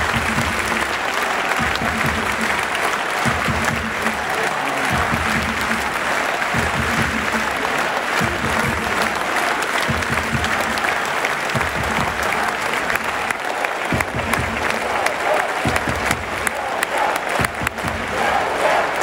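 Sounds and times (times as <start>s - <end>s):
crowd applauding: 0.0s - 19.0s
scattered crowd voices: 0.0s - 19.0s.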